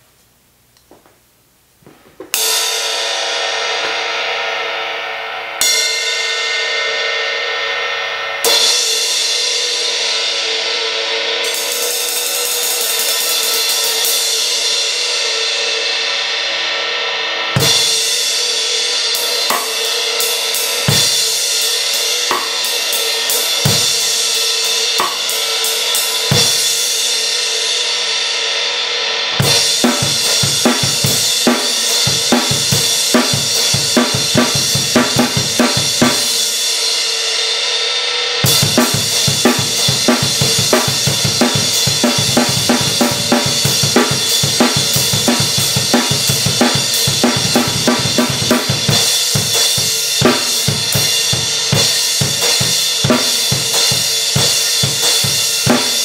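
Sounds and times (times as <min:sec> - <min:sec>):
drum kit playing: 0:01.9 - 0:56.0.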